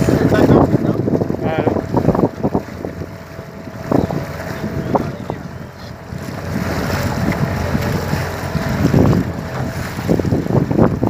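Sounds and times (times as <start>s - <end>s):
water slapping boat hull: 0.0s - 11.0s
wind buffeting microphone: 0.0s - 11.0s.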